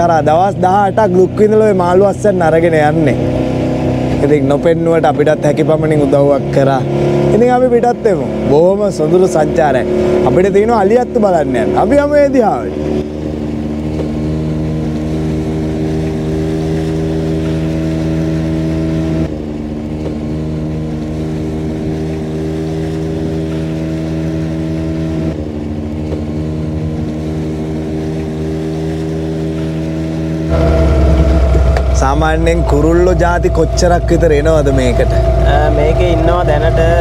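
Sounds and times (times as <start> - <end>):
outboard boat motor running: 0.0 - 37.0.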